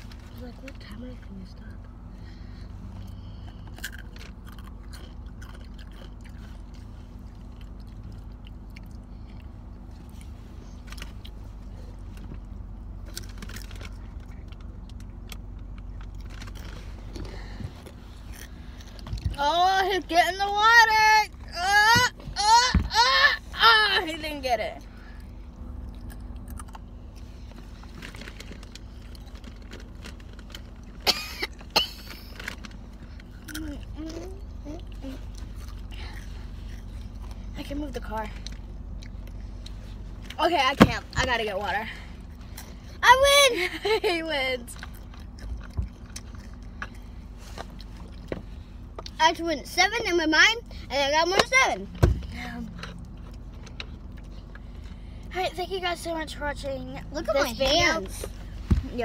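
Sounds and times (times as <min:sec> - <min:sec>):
car engine idling: 0:00.0 - 0:59.0
low steady hum: 0:00.0 - 0:59.0.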